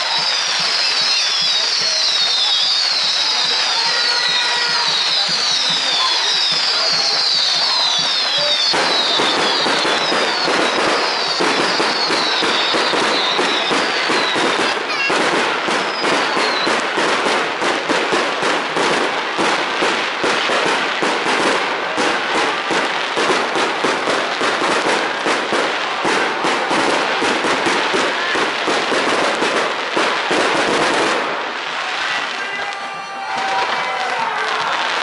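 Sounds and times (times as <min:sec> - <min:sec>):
falling firework whistles: 0:00.0 - 0:31.8, 0:32.6 - 0:35.0
fireworks crackling and popping: 0:00.0 - 0:35.0.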